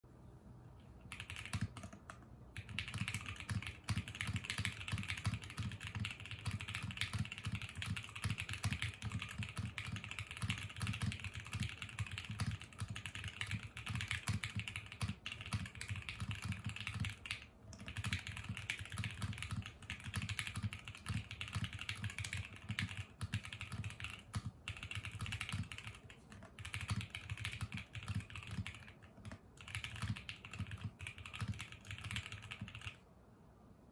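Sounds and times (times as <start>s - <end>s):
fast mechanical keyboard typing: 1.1s - 33.0s.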